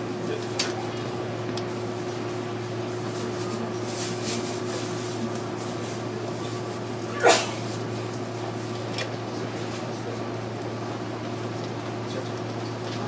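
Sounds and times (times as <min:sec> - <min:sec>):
air conditioning noise: 0:00.0 - 0:13.0
train electrical hum: 0:00.0 - 0:13.0.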